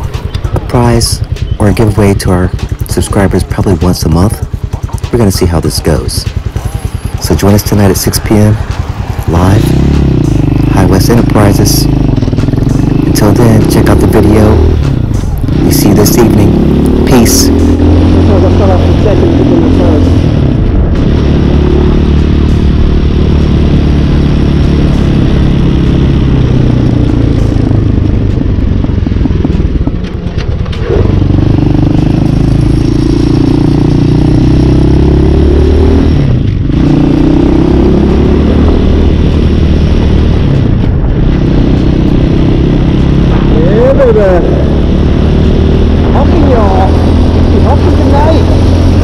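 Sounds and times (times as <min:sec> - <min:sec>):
dirt bike engine running: 0:00.0 - 0:49.0.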